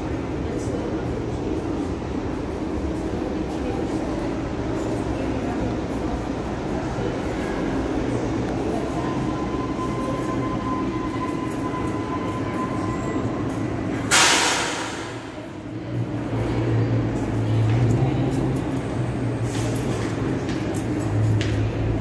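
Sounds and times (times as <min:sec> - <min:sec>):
subway train pulling in: 0:00.0 - 0:22.0.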